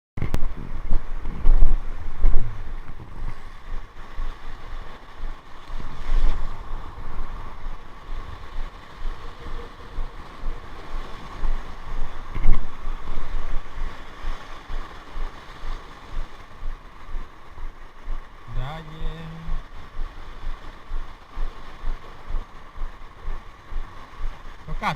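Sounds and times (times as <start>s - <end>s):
sea surf: 0.2s - 24.9s
wind buffeting microphone: 0.2s - 24.9s.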